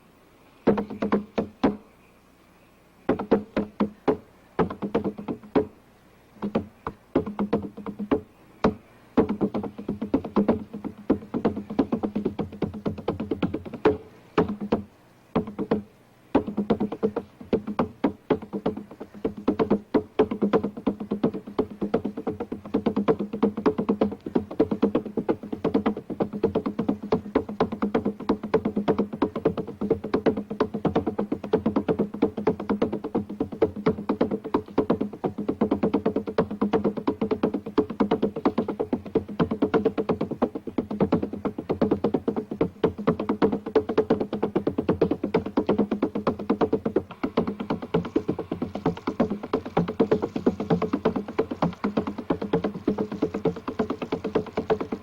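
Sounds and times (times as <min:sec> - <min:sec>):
hand drum flurries: 0:06.4 - 0:55.0.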